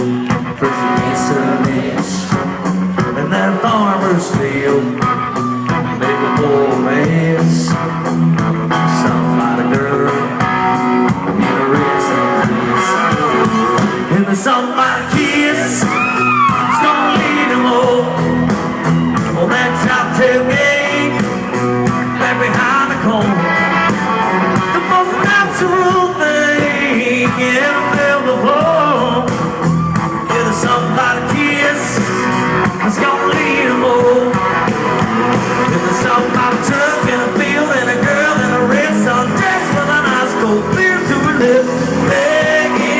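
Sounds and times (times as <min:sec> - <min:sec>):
man singing: 0:00.0 - 0:29.6, 0:30.2 - 0:42.9
live country rock band: 0:00.0 - 0:42.9.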